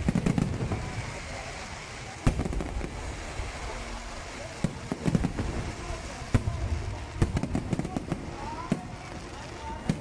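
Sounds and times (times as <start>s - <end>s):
firework bang: 0.0s - 1.4s, 2.1s - 9.0s
fireworks rumbling and crackling: 0.0s - 10.0s
small firework pops: 0.0s - 10.0s.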